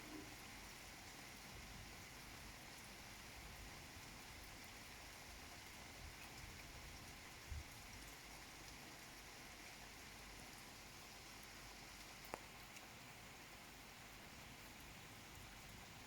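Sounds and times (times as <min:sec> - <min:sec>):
faint steady rain: 0:00.0 - 0:16.0.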